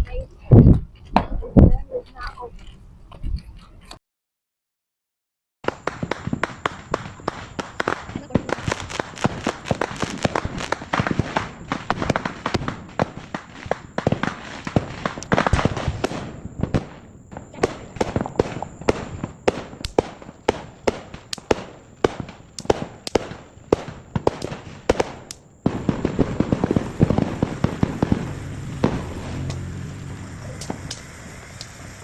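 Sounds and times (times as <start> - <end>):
fireworks popping and crackling: 5.6 - 32.0.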